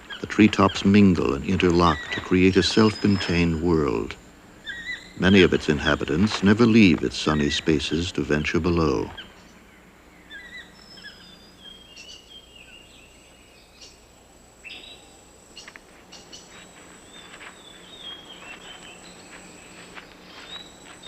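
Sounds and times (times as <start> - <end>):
birds chirping and whistling: 0.0 - 14.0, 14.6 - 21.0
insects humming: 0.0 - 21.0.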